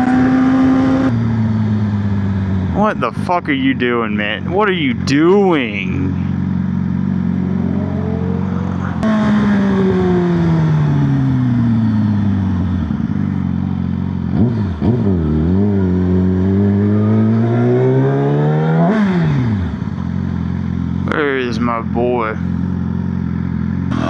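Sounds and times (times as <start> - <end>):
motorcycle engine slowing and accelerating: 0.0 - 24.0.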